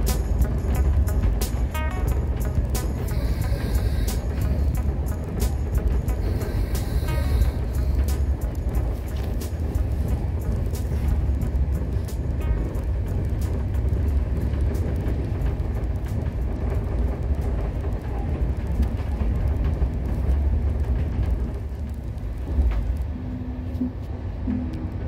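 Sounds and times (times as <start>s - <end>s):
train rumble from inside: 0.0s - 25.0s.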